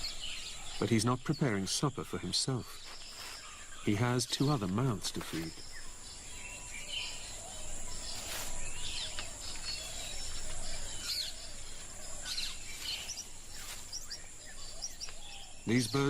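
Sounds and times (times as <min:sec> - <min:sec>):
bird chirps and calls: 0:00.0 - 0:16.0.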